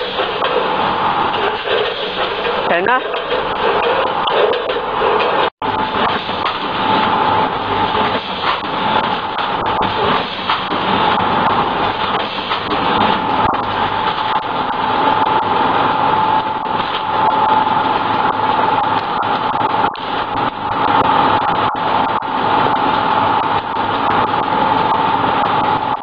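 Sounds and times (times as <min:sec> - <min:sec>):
packaging machine running: 0:00.0 - 0:26.0.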